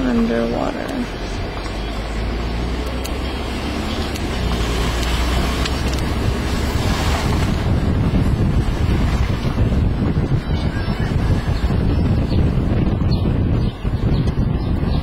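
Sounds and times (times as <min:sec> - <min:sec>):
road and engine rumble: 0:00.0 - 0:15.0
wind buffeting microphone: 0:00.0 - 0:15.0.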